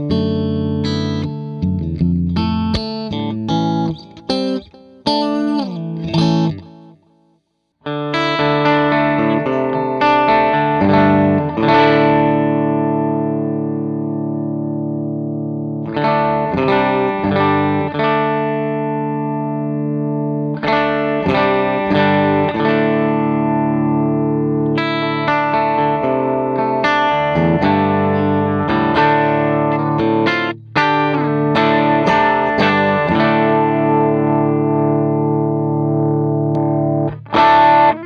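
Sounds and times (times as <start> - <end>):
electric guitar chords and notes: 0.0 - 38.0.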